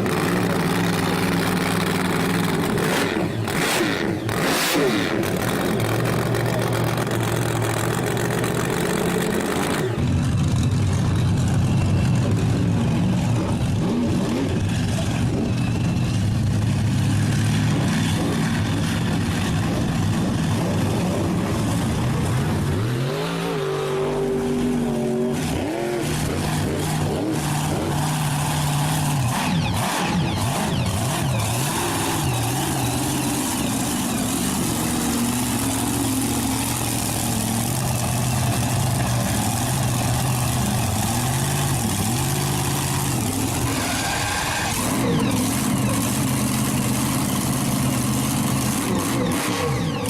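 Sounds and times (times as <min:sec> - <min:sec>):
monster truck engine running: 0:00.0 - 0:50.0.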